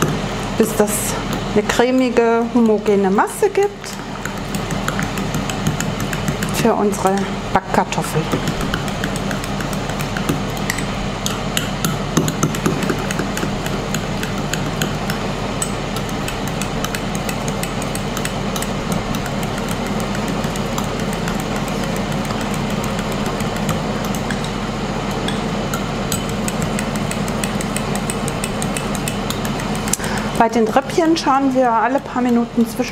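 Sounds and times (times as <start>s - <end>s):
air fryer humming: 0.0s - 32.9s.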